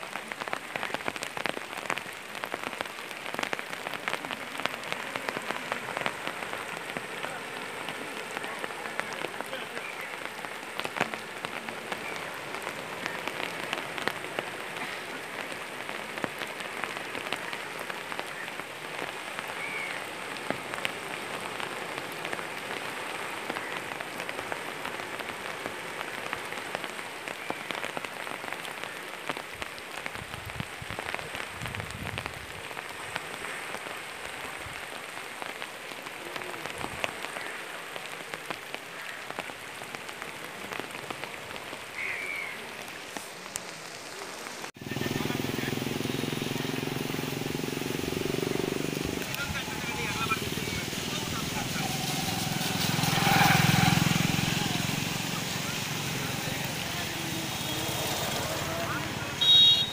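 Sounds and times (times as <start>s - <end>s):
flood river rushing: 0.0s - 59.9s.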